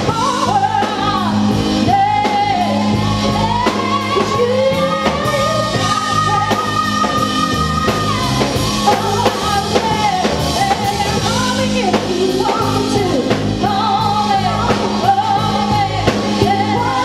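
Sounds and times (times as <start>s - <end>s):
live band playing: 0.0s - 17.0s
woman singing lead: 0.0s - 17.0s
women singing backing harmonies: 0.0s - 17.0s.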